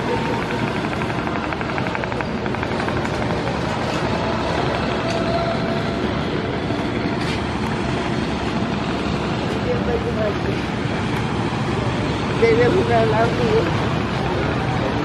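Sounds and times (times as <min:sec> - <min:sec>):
boat diesel engine drone: 0:00.0 - 0:15.0
wind: 0:00.0 - 0:15.0.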